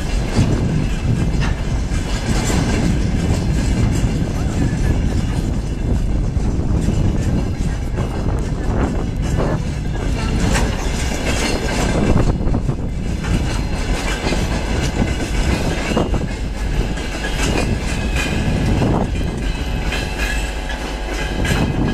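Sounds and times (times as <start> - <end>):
train wheels rumbling on rail: 0.0 - 21.9
wheels clacking over rail joints: 0.0 - 21.9.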